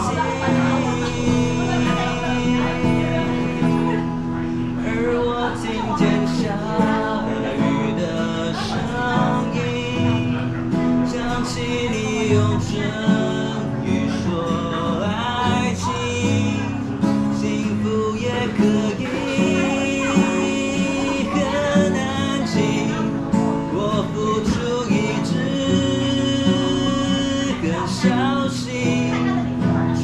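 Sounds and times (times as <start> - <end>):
acoustic guitar strumming and picking: 0.0 - 30.0.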